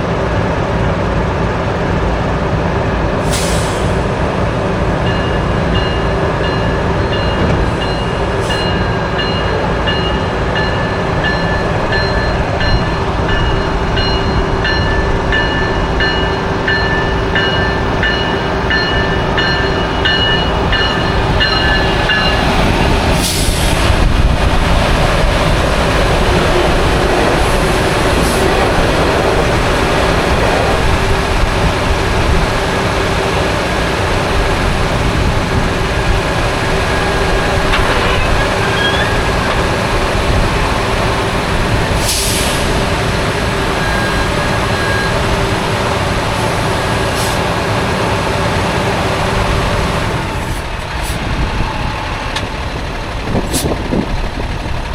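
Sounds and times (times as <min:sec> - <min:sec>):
train rumbling past: 0:00.0 - 0:54.9.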